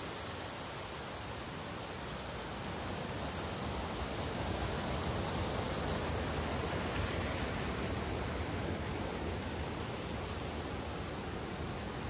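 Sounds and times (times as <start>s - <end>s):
creek rushing over boulders: 0.0s - 12.0s.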